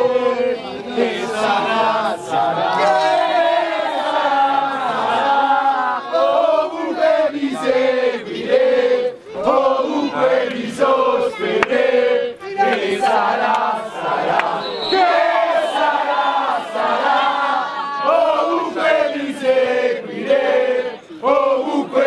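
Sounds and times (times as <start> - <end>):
football crowd chanting: 0.0 - 22.0.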